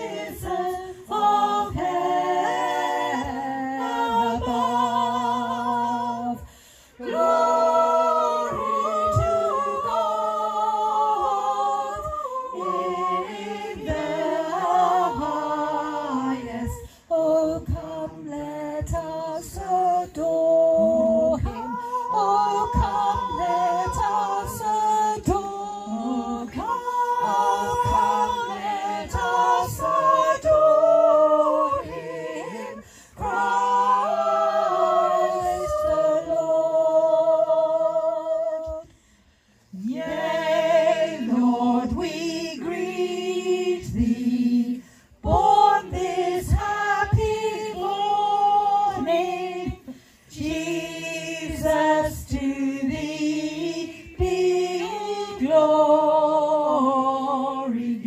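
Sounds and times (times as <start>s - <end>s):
group singing a carol: 0.0s - 58.0s.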